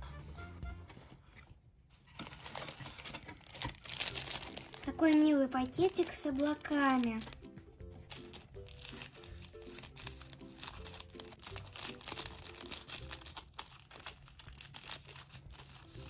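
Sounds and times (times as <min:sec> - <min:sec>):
light background music: 0:00.0 - 0:01.2, 0:02.2 - 0:16.0
cellophane crinkling: 0:02.0 - 0:16.0.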